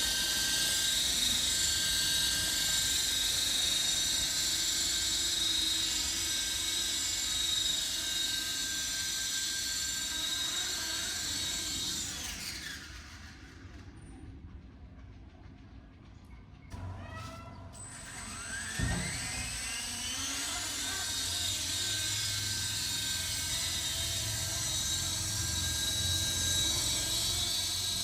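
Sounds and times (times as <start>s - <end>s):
electric motor and rotor whining: 0.0s - 14.2s, 16.7s - 28.0s.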